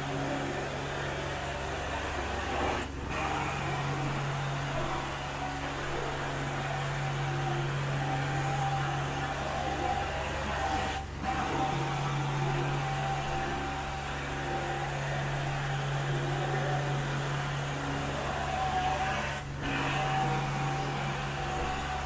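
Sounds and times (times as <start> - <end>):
carpet extractor droning with whine: 0.0 - 22.0.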